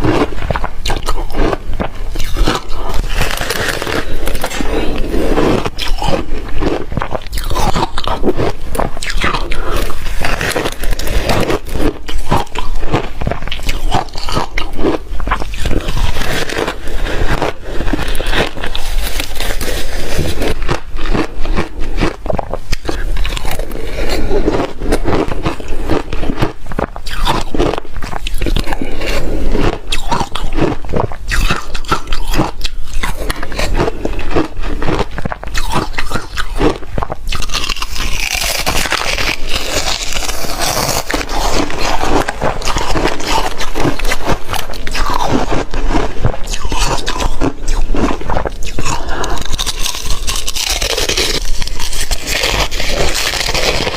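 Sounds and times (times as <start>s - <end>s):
person crunching ice: 0.0s - 53.9s.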